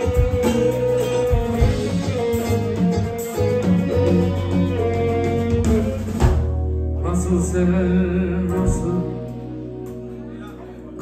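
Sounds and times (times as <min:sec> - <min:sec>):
live band folk-style music: 0:00.0 - 0:11.0.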